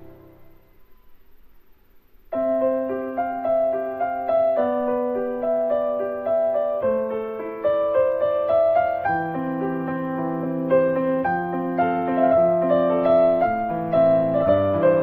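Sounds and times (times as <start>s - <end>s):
instrumental music: 0.0s - 1.2s, 2.3s - 15.0s.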